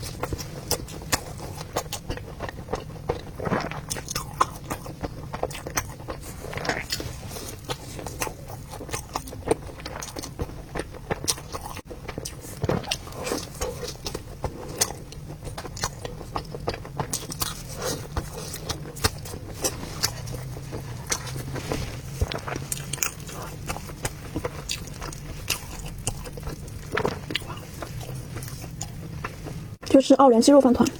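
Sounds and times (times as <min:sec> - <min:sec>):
wet chewing mouth clicks: 0:00.0 - 0:29.6
steady low hum: 0:00.0 - 0:30.9.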